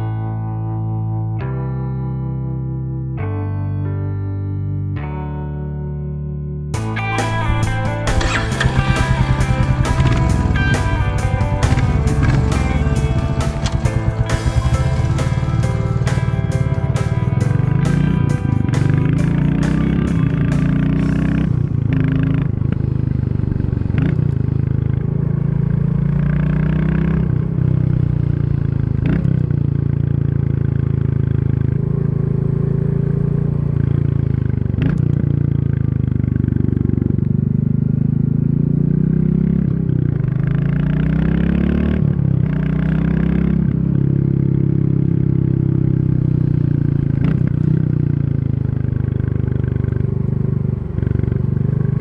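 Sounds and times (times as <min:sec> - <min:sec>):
motorcycle engine accelerating: 0:06.8 - 0:52.0.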